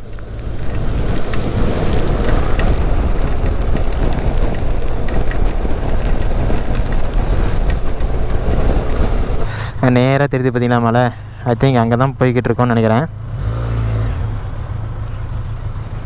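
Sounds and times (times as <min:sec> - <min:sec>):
motorcycle engine and wind noise: 0:00.0 - 0:16.0.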